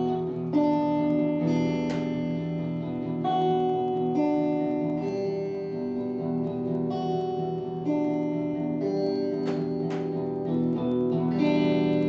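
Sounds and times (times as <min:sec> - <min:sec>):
guitar playing ringing chords: 0:00.0 - 0:12.0.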